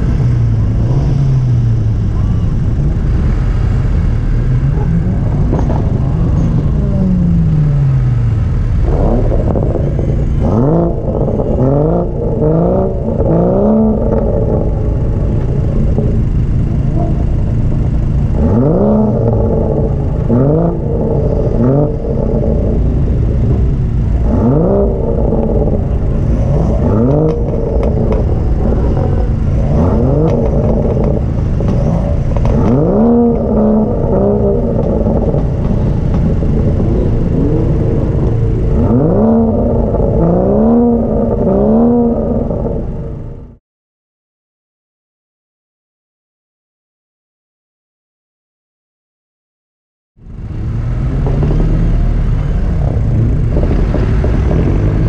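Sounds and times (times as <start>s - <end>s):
car engine revving: 0.0s - 43.6s, 50.2s - 55.0s.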